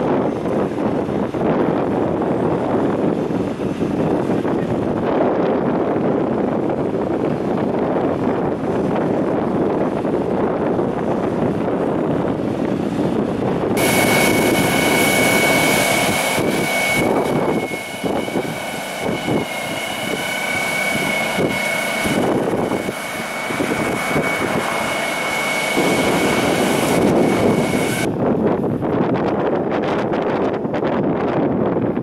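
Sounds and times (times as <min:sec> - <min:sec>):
road sweeper high-pitched whine: 0:00.0 - 0:28.6
road sweeper rushing noise: 0:00.0 - 0:28.6.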